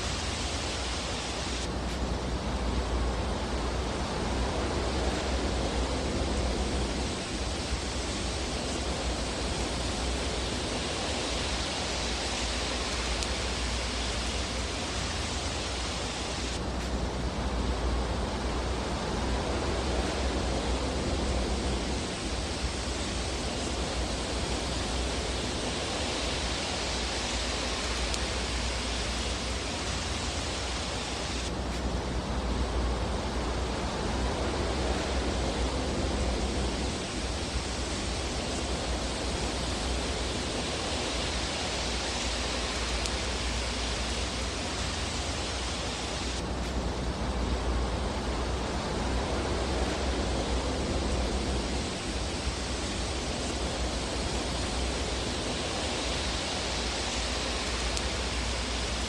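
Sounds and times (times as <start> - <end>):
fire rushing hiss: 0.0 - 59.0.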